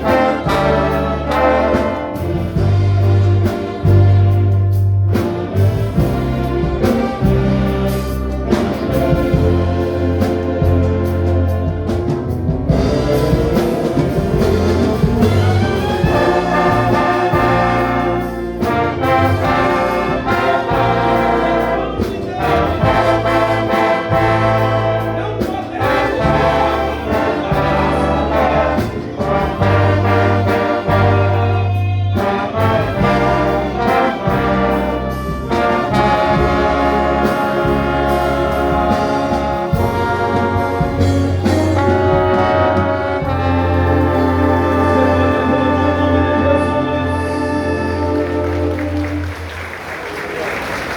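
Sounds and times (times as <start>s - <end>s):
brass section chords: 0.0s - 50.9s
orchestra playing slow piece: 0.0s - 50.9s.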